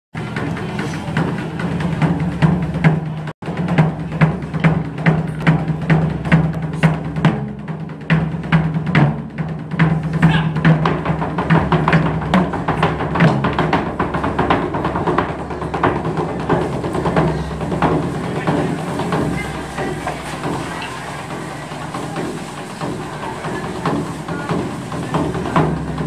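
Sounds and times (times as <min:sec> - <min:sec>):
taiko drums drumming: 0:00.1 - 0:26.0.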